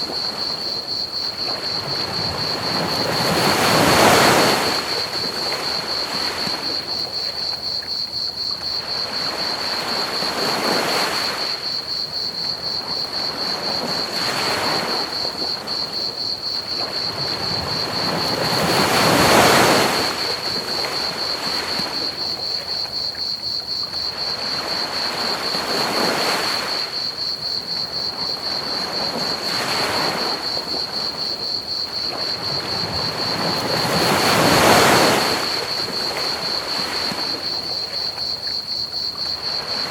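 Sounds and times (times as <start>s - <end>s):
ocean waves breaking on beach: 0.0s - 7.6s, 8.6s - 11.8s, 12.5s - 22.9s, 24.0s - 39.9s
crickets chirping: 0.0s - 39.9s.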